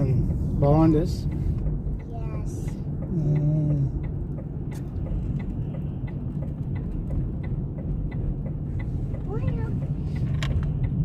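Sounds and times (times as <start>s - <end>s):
car engine: 0.0s - 11.0s
road rumble on wet road: 0.0s - 11.0s.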